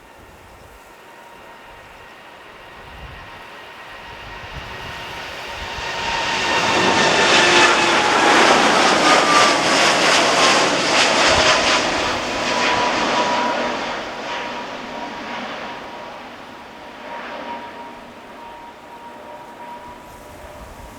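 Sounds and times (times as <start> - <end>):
jet airliner taking off: 0.0 - 20.9.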